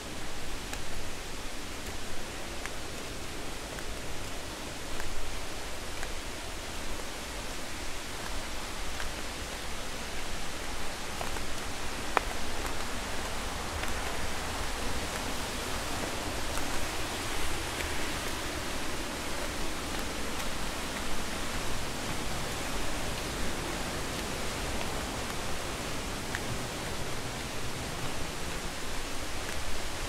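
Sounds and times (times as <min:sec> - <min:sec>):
rushing water: 0:00.0 - 0:30.0
faint footsteps on a path: 0:00.2 - 0:30.0.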